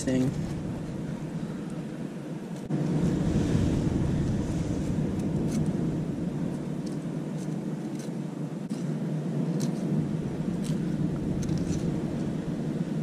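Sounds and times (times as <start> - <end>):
ocean surf: 0.0 - 13.0
wind rumbling on microphone: 0.0 - 13.0.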